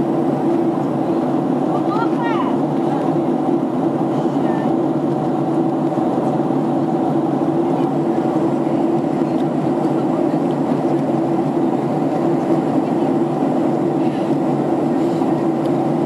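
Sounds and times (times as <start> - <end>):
jet cabin drone: 0.0 - 16.0
steady low hum: 0.0 - 16.0.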